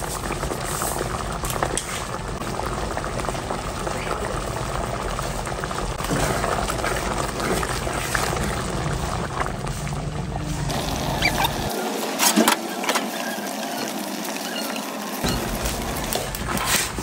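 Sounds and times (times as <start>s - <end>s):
sauce bubbling in a pot: 0.0s - 11.8s, 13.1s - 17.0s.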